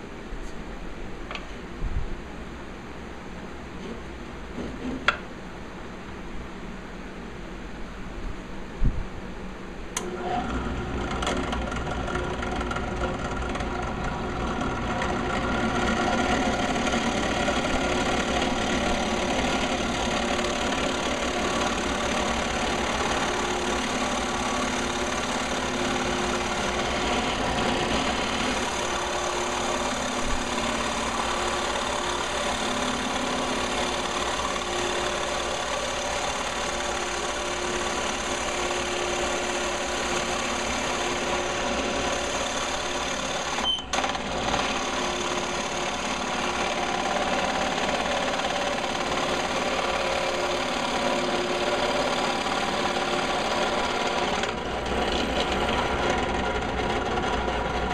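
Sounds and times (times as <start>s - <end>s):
drill press boring into wood: 10.0s - 57.9s.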